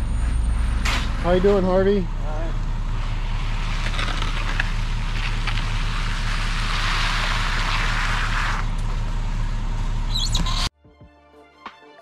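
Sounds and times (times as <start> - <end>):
diesel engine drone: 0.0 - 10.7.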